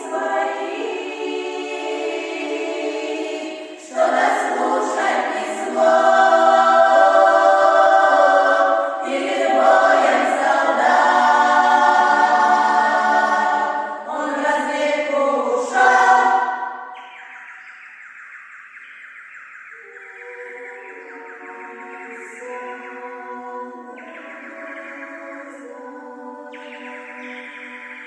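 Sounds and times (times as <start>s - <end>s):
choir singing held chords: 0.0s - 17.7s, 19.7s - 28.0s.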